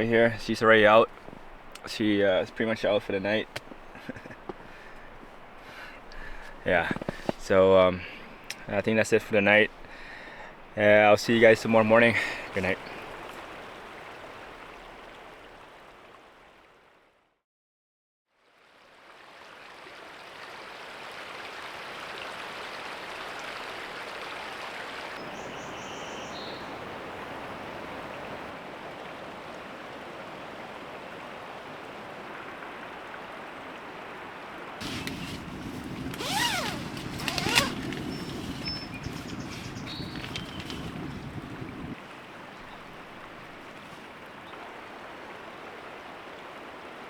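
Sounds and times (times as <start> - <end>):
creek flowing: 0.0 - 17.2, 18.4 - 47.0.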